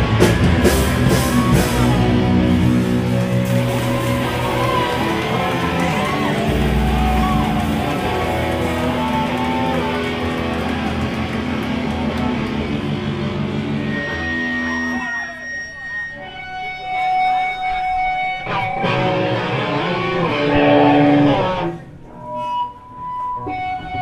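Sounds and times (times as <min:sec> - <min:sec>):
live rock band playing: 0:00.0 - 0:21.8
electric guitar bending notes: 0:00.0 - 0:24.0.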